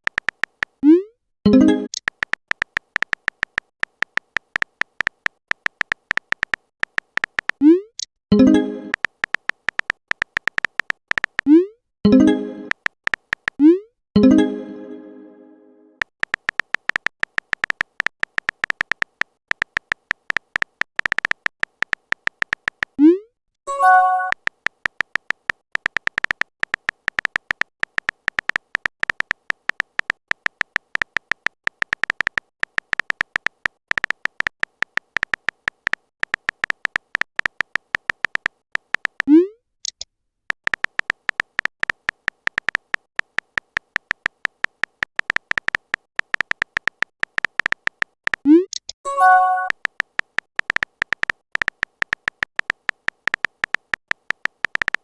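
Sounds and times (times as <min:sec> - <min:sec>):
keyboard typing clicks: 0:00.0 - 0:15.2, 0:16.0 - 0:55.0.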